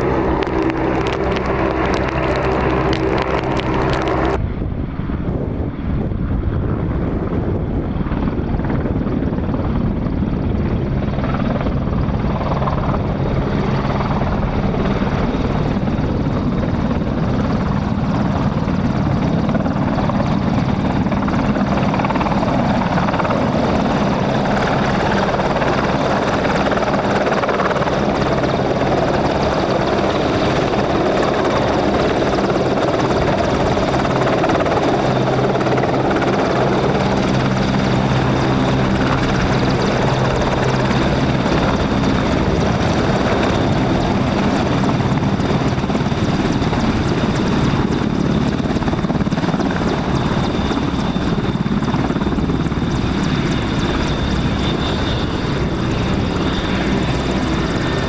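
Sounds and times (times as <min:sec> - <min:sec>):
helicopter rotors beating: 0:00.0 - 0:58.0
high turbine whine: 0:00.0 - 0:58.0.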